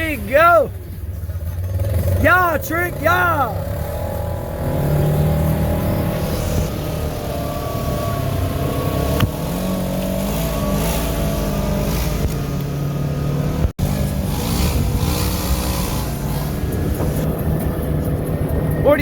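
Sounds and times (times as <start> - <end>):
off-road vehicle engines revving: 0.0 - 19.0.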